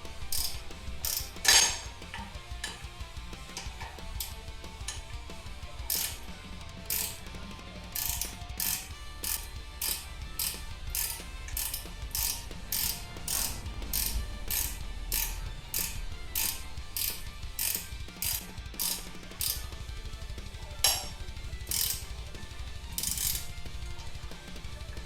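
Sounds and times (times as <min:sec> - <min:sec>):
ratcheting wrench clicking: 0:00.1 - 0:25.0.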